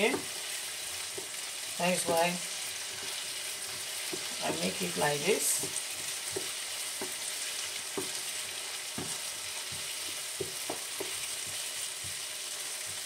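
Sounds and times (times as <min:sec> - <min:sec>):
vegetables sizzling in a frying pan: 0:00.0 - 0:13.0
wooden spoon scraping a pan: 0:01.0 - 0:12.2.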